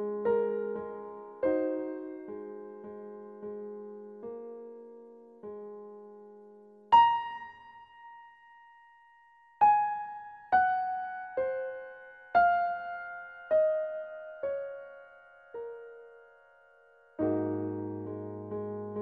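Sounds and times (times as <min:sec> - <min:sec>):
slow piano notes: 0:00.0 - 0:19.0.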